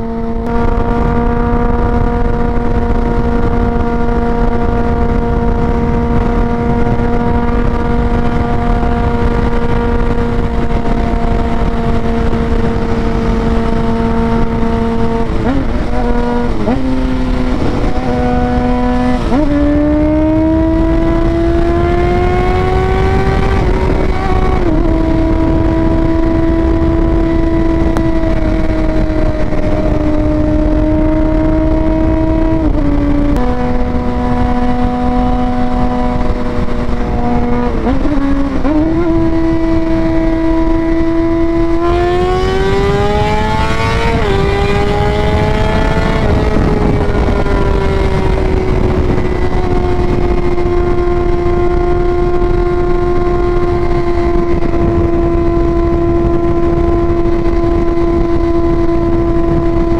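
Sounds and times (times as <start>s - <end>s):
motorcycle engine revving: 0.0s - 59.9s
wind rushing: 0.0s - 59.9s.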